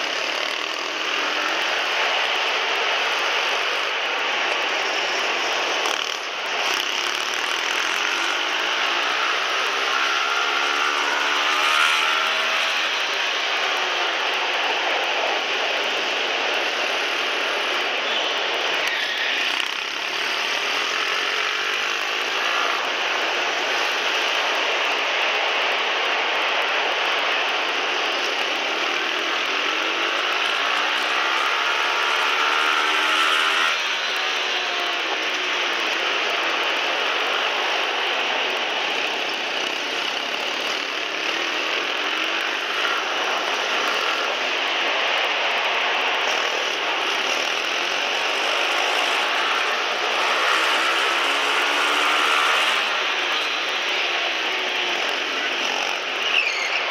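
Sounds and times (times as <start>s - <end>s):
motorbike engine revving: 0.0s - 56.9s.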